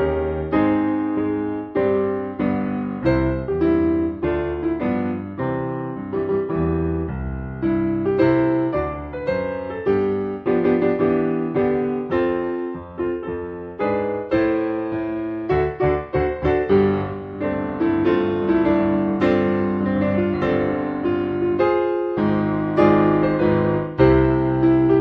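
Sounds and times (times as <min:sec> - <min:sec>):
solo piano chords: 0:00.0 - 0:25.0.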